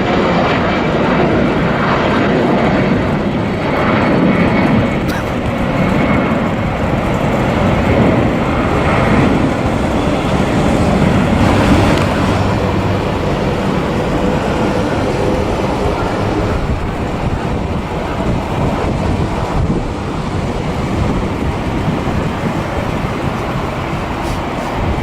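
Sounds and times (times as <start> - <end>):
jet engine rush: 0.0 - 25.0
wind on microphone: 0.0 - 25.0.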